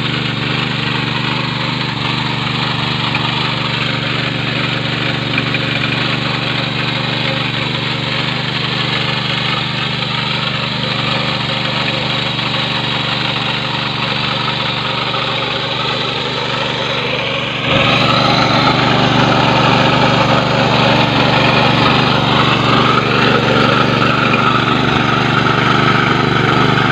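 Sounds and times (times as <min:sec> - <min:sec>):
small tiller engine droning: 0:00.0 - 0:26.9.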